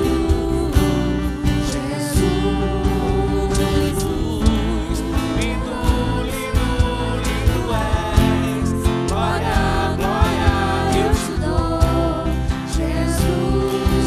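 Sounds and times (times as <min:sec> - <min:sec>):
electric bass: 0:00.0 - 0:14.0
people singing: 0:00.0 - 0:14.0
percussion beat: 0:00.0 - 0:14.0
strummed acoustic guitars: 0:00.0 - 0:14.0.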